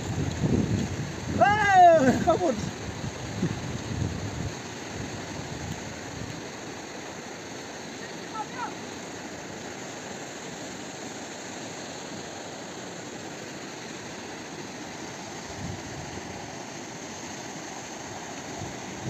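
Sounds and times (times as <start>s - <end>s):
turbulent river rushing: 0.0s - 19.0s.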